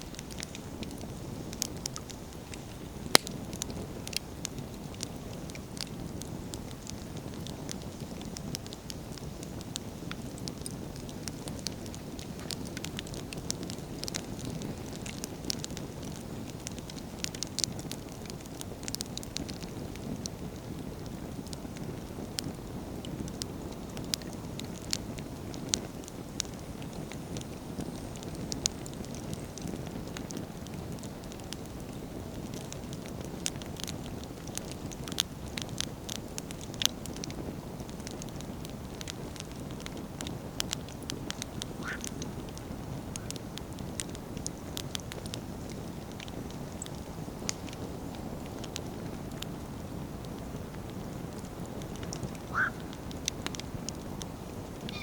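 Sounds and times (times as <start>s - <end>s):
firewood crackling and popping: 0.0s - 55.0s
low rush of flame: 0.0s - 55.0s
wood fire burning: 0.0s - 55.0s.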